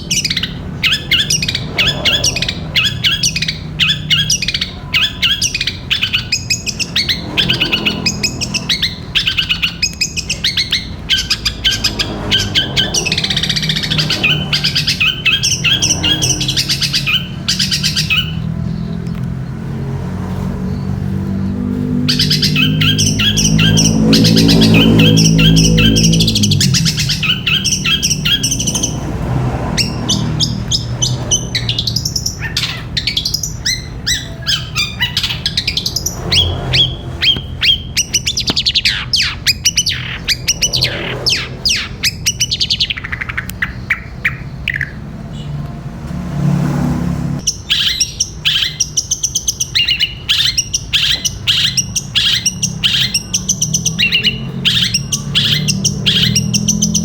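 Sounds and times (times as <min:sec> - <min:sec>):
shrike singing: 0:00.0 - 0:19.9, 0:20.7 - 0:45.6, 0:47.4 - 0:57.0.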